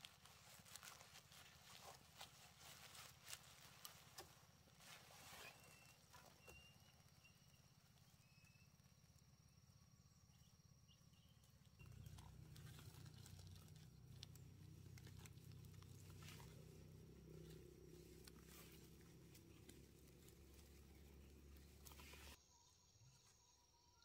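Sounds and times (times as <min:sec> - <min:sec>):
faint chirps: 0:00.9 - 0:24.0.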